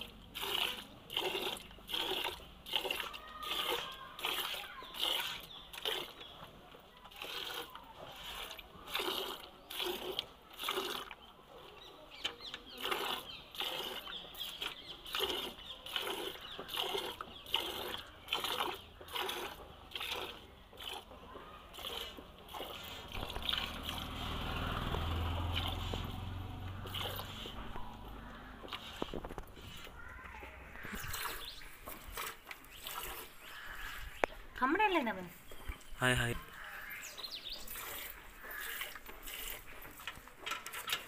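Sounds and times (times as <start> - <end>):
milk squirting into steel bucket: 0.0 - 34.4, 37.6 - 41.0.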